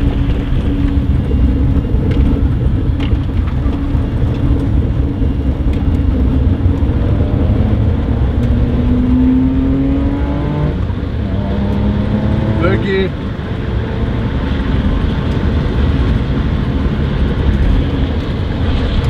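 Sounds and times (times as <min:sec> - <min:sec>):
car engine drone: 0:00.0 - 0:19.0
low tyre rumble: 0:00.0 - 0:19.0.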